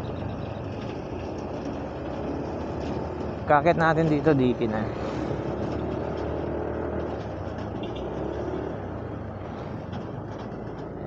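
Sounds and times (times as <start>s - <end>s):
scooter engine running: 0.0s - 11.0s
wind and road noise: 0.0s - 11.0s.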